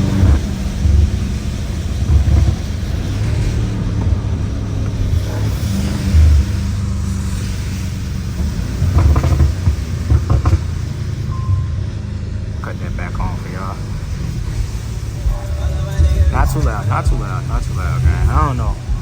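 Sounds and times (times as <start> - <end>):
car engine drone: 0.0 - 19.0
rain and tyre spray hiss: 0.0 - 19.0.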